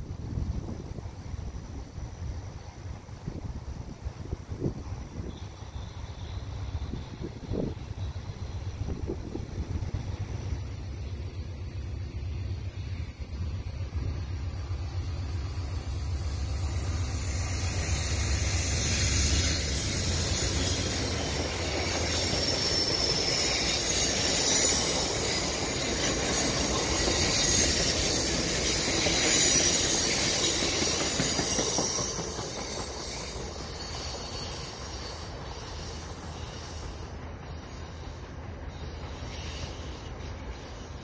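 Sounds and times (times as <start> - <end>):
train wheels rumbling and clacking: 0.0 - 41.0
wheel flange squeal: 5.3 - 41.0.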